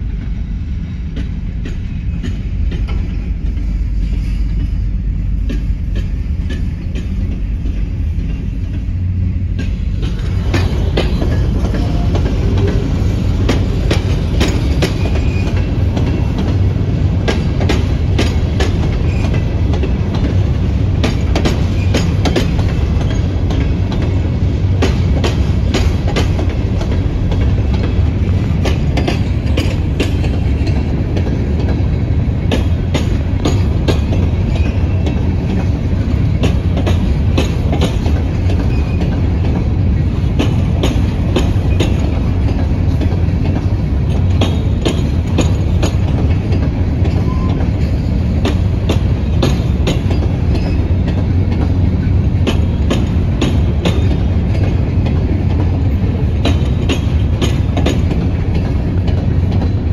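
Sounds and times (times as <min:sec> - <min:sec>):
freight train rolling past: 0:00.0 - 0:59.9
wheels clicking over rail joints: 0:01.1 - 0:59.9.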